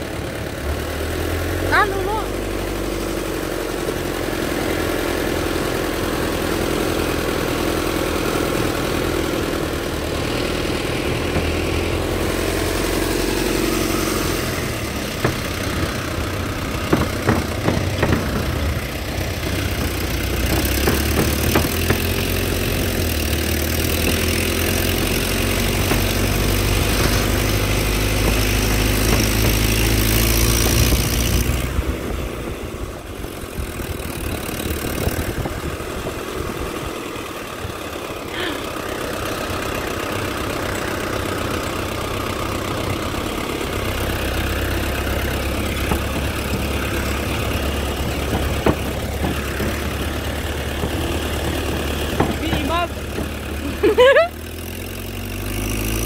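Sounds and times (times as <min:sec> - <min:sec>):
truck engine running: 0:00.0 - 0:56.0
truck knocks and rattles: 0:02.3 - 0:56.0.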